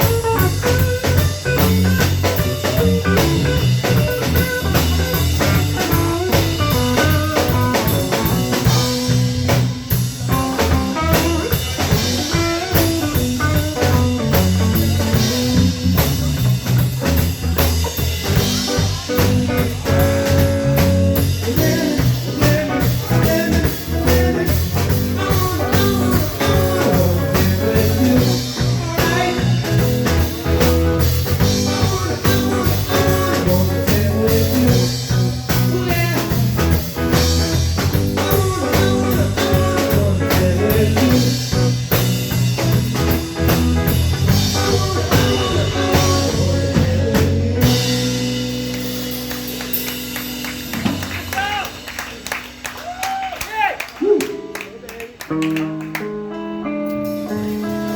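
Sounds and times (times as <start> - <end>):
bluesy live band jamming: 0.0 - 57.9
electric guitar: 0.0 - 57.9.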